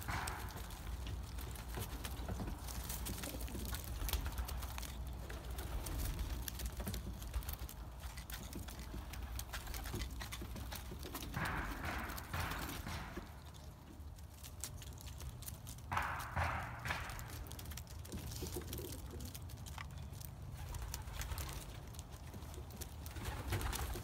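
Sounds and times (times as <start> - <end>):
pigeons pecking seed: 0.0 - 24.0.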